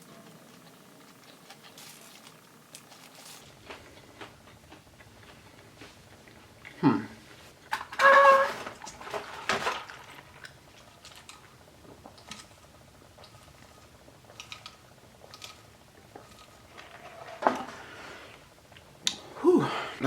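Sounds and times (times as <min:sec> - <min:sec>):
person chewing crispy food: 0:00.0 - 0:06.8, 0:08.8 - 0:19.2.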